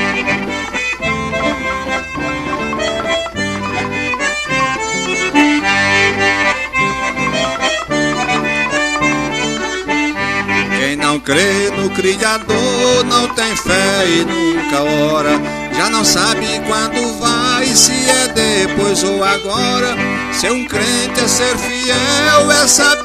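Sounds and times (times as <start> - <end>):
piano accordion melody: 0.0 - 23.0
steady beat: 0.0 - 23.0.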